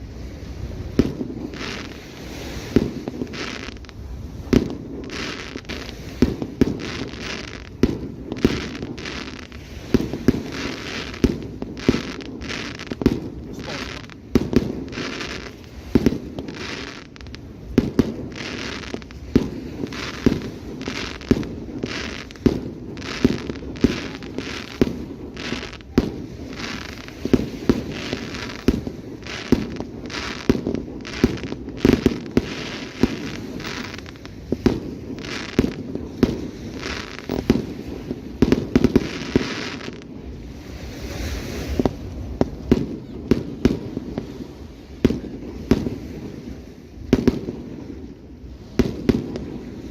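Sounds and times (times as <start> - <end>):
fireworks crackle and rumble: 0.0 - 49.9.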